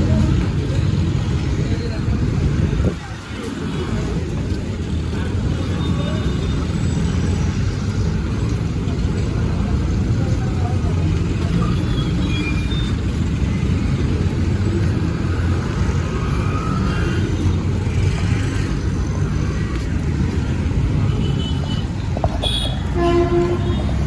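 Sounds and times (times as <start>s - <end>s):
vehicle rumble: 0.0s - 24.0s.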